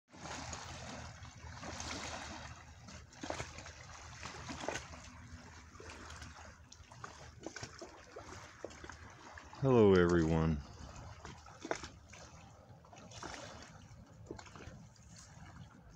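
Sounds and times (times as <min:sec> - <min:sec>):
small waves lapping on shoreline: 0:00.1 - 0:15.9.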